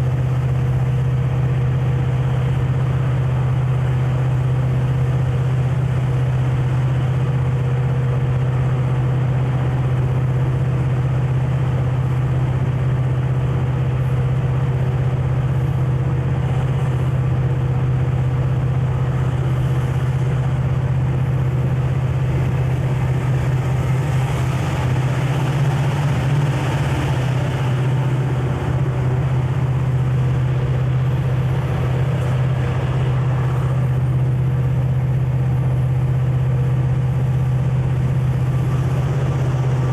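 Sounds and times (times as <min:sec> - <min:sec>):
diesel locomotive drone: 0:00.0 - 0:39.9
train rolling on rails: 0:00.0 - 0:39.9.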